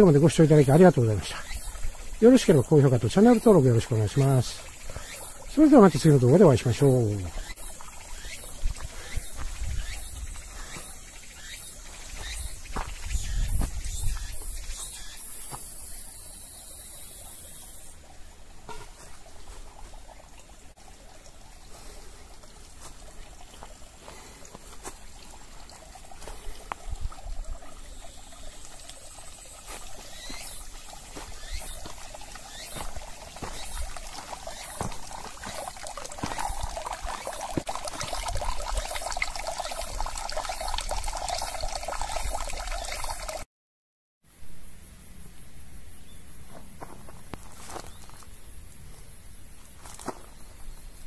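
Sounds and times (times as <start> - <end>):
water trickling into basin: 0.0 - 43.5.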